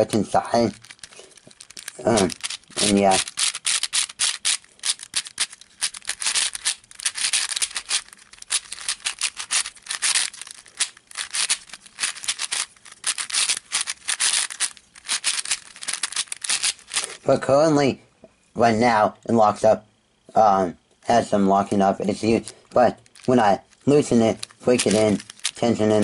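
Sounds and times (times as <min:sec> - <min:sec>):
puzzle cube turning clicks: 0:00.0 - 0:17.2, 0:22.3 - 0:26.0.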